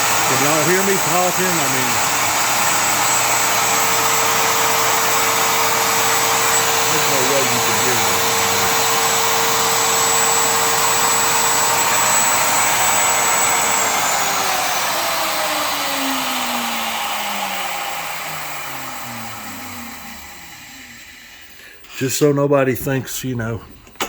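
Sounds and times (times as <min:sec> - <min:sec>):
router winding down: 0:00.0 - 0:21.7
router whining: 0:00.0 - 0:21.9.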